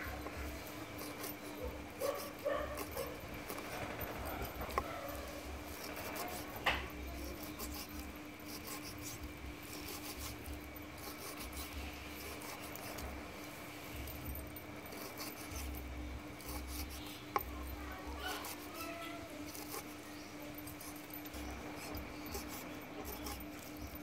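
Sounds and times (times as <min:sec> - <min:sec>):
knife slicing raw meat: 0:00.0 - 0:24.0.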